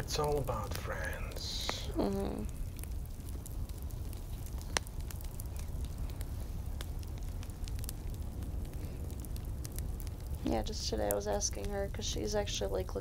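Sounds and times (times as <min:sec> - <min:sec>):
fire crackling and popping: 0:00.0 - 0:13.0
low steady rumble: 0:00.0 - 0:13.0.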